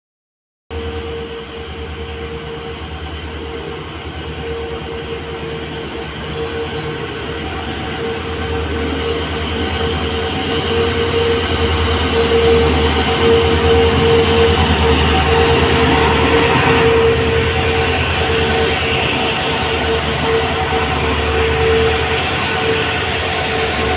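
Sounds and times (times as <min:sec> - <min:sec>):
locomotive high whine: 0:00.7 - 0:23.9
diesel engine throb: 0:00.8 - 0:23.9.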